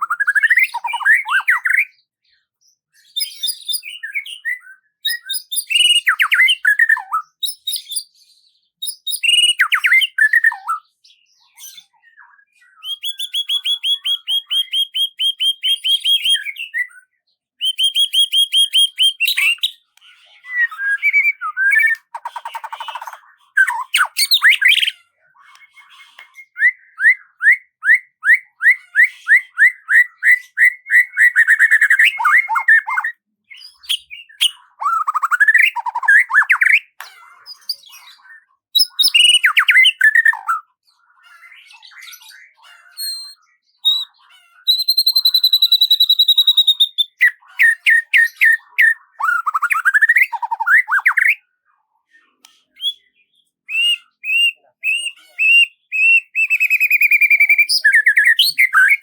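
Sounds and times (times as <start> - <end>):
songbird singing: 0.0 - 51.6, 52.3 - 59.0.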